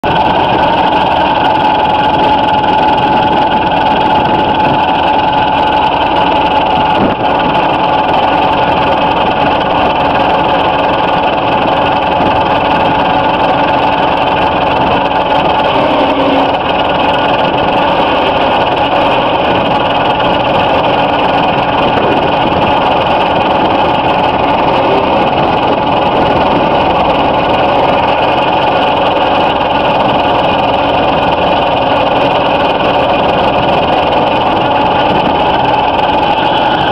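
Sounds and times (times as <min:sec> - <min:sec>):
manure spreader running: 0:00.0 - 0:36.9
steady whine: 0:00.0 - 0:36.9.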